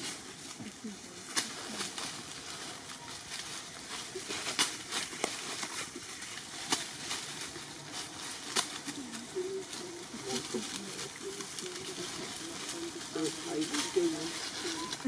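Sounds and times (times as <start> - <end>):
dry leaves crackling: 0.0 - 15.0.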